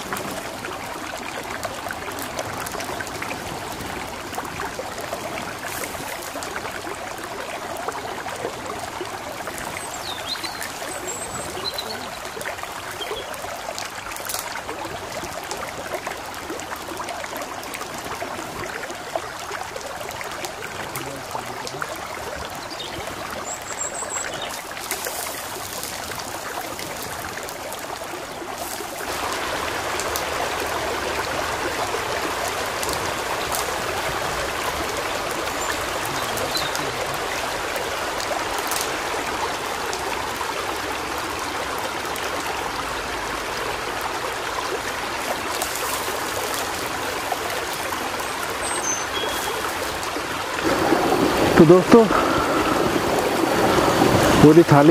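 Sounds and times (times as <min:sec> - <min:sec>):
stream water rushing: 0:00.0 - 0:54.9.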